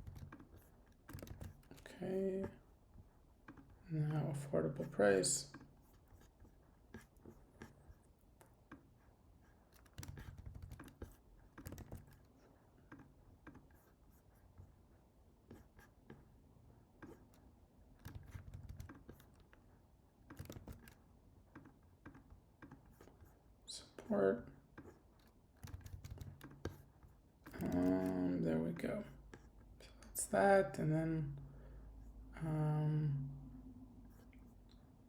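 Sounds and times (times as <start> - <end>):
faint keyboard typing: 0.0 - 4.5, 5.4 - 16.3, 17.0 - 29.8.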